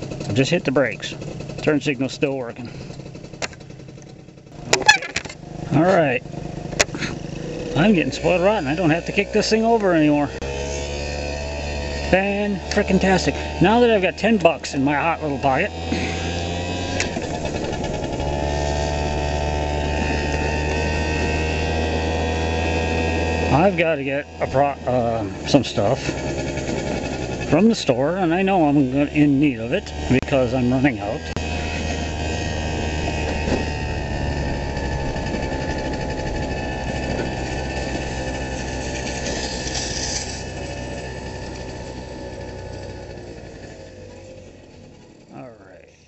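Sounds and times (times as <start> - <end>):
scooter two-stroke engine running: 0.0 - 45.6.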